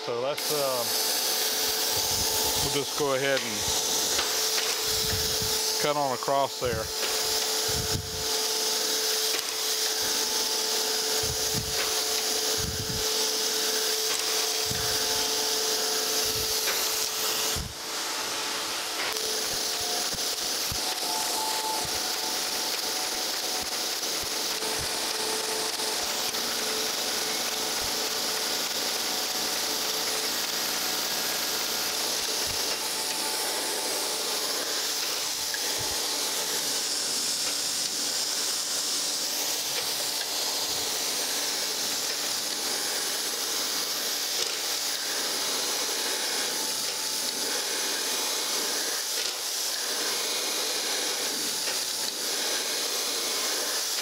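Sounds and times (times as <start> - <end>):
grinding wheel hissing on metal: 0.0 - 54.0.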